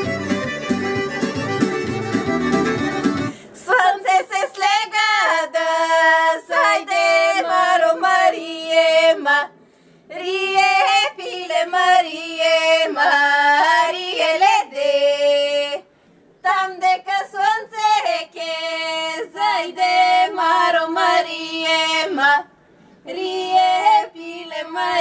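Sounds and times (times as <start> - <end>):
women singing folk song: 3.2 - 25.0.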